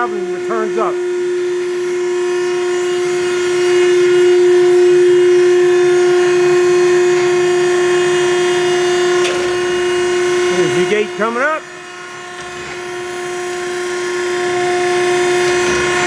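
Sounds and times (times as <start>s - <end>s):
hydraulic baler whine and hiss: 0.0s - 16.0s.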